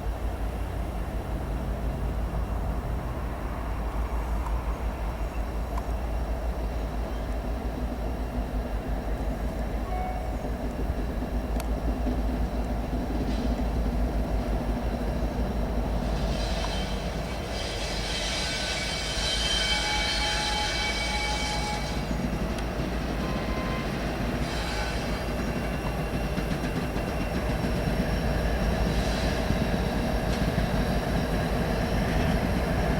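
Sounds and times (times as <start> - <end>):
freight train rumbling: 0.0 - 32.9
train wheel squeal: 4.1 - 8.6, 9.7 - 32.9.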